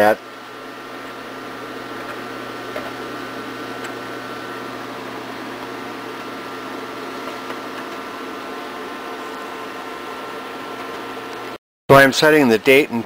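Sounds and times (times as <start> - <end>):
computer fans humming: 0.0 - 13.0.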